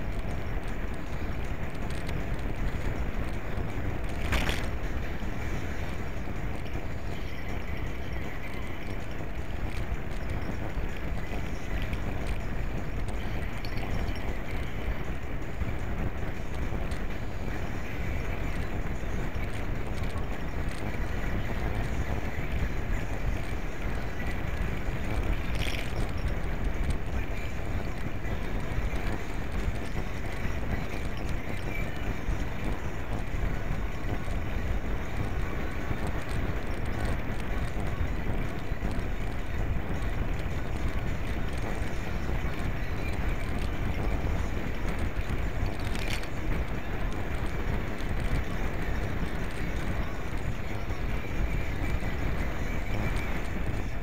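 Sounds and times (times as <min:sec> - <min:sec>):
bicycle tyres rumbling on pavement: 0:00.0 - 0:54.0
wind noise on microphone: 0:00.0 - 0:54.0.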